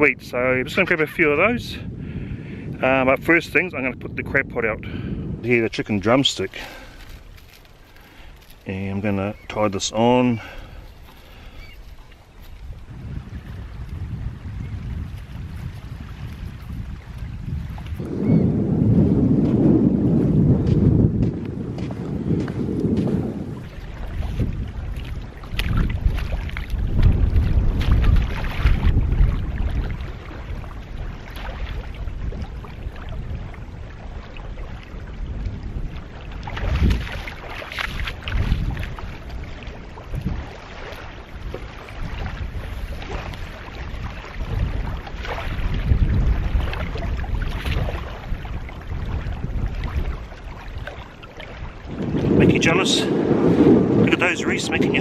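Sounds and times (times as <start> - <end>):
wind buffeting microphone: 0.0 - 55.0
splashing of shallow water: 5.8 - 18.4, 20.6 - 55.0.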